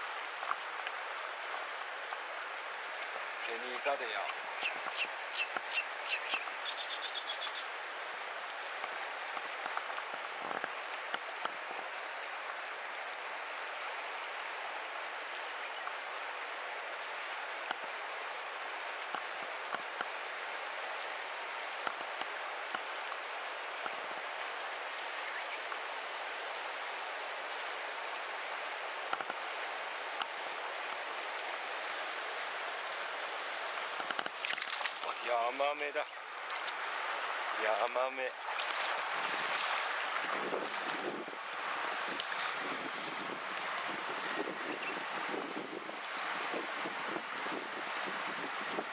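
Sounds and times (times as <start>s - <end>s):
stream rushing over riffles: 0.0s - 48.9s.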